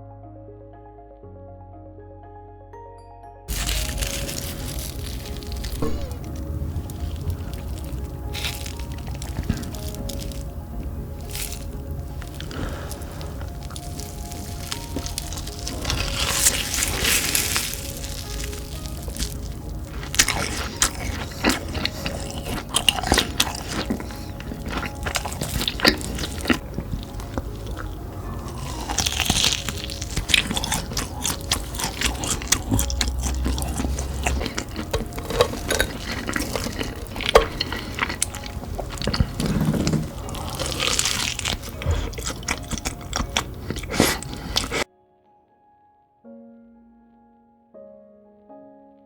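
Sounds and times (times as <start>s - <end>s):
background music: 0.0s - 49.0s
crunchy food being chewed: 3.5s - 44.9s.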